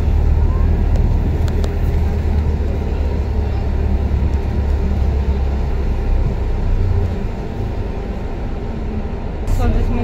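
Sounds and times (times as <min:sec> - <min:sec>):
bus engine rumble: 0:00.0 - 0:10.0
road noise: 0:00.0 - 0:10.0.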